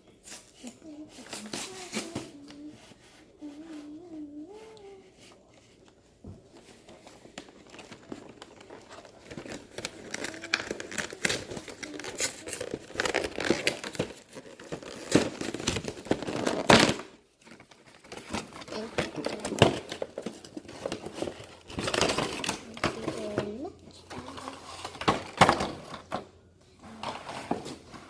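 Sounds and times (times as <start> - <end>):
plastic wrapping crinkling and tearing: 0.2 - 5.9, 6.5 - 25.8.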